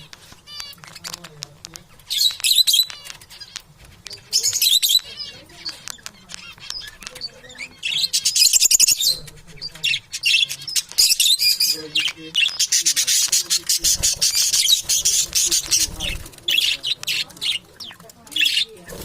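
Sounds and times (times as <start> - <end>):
parrots chirping: 0.0 - 19.0.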